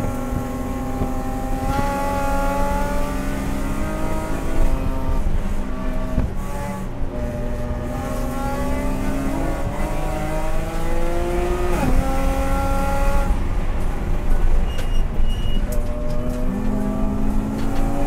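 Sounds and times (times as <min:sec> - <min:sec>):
race car engine revving: 0:00.0 - 0:14.4, 0:15.7 - 0:18.0.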